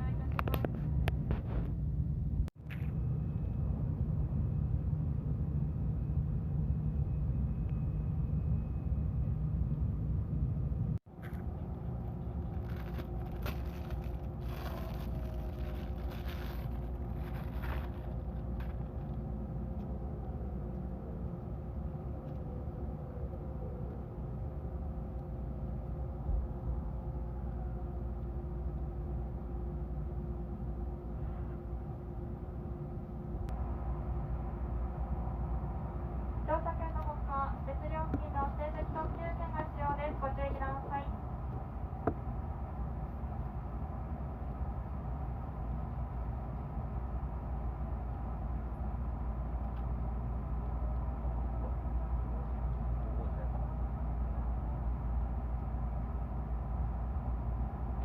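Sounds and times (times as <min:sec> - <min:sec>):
faint steady hum: 0:00.0 - 0:58.0
vehicle rumbling in motion: 0:00.0 - 0:58.0.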